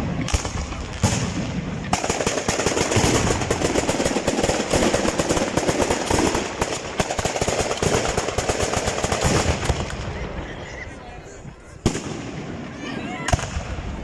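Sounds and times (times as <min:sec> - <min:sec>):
fireworks bangs and crackles: 0:00.0 - 0:10.6, 0:11.8 - 0:14.0.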